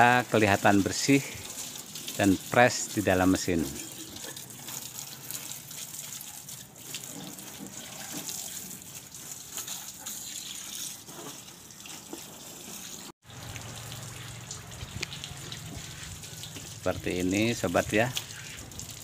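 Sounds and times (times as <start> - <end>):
hose water spraying and splashing: 0.0 - 19.0.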